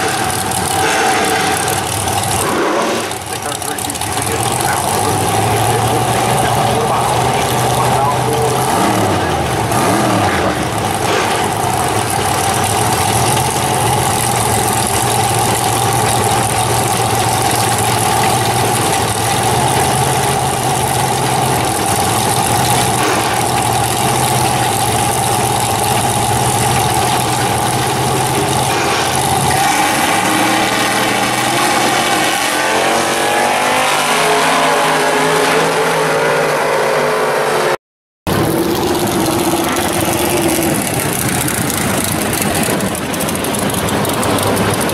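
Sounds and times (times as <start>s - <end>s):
race car engines idling: 0.0s - 32.7s, 38.3s - 44.9s
race cars accelerating: 0.0s - 44.9s.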